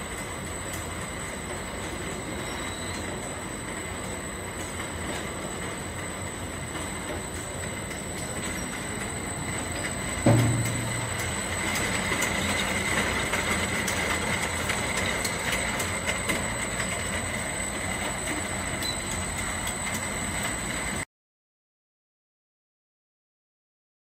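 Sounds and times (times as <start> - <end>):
machine metallic rattle and whine: 0.0 - 21.1.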